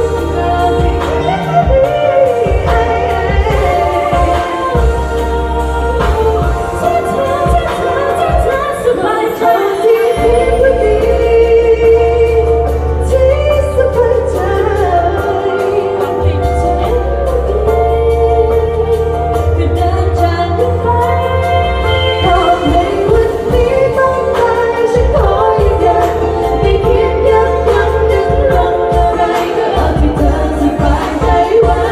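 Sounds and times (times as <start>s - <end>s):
bass beat: 0.0s - 8.8s, 10.2s - 31.9s
amplified pop music: 0.0s - 31.9s
woman singing: 0.0s - 31.9s.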